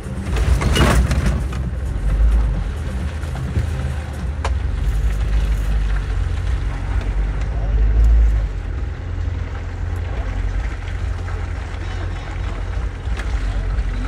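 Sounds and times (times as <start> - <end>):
vehicle rumbling over mud track: 0.0 - 14.0.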